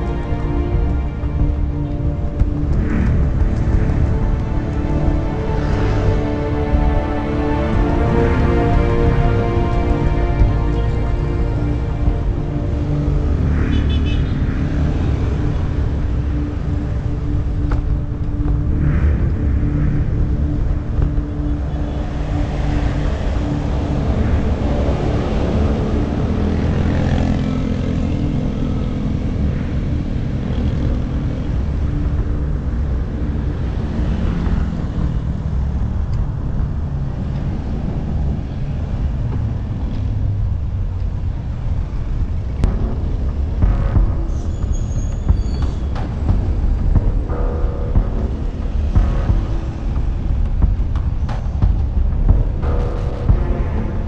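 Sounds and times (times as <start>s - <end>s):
passing cars and motorcycles: 0.0s - 54.0s
steady engine hum: 0.0s - 54.0s
wind and road noise: 0.0s - 54.0s.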